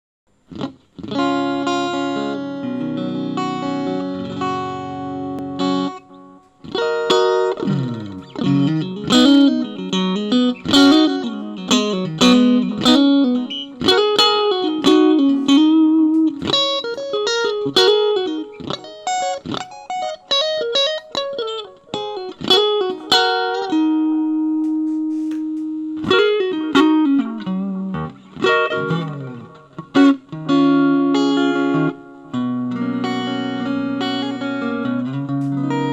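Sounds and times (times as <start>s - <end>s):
electric guitar playing: 0.4s - 35.9s.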